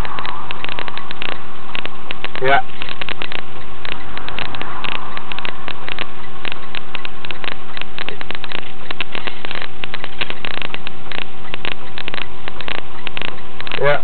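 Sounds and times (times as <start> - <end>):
crackling and clicking: 0.0 - 14.0
steady electrical hum: 0.0 - 14.0.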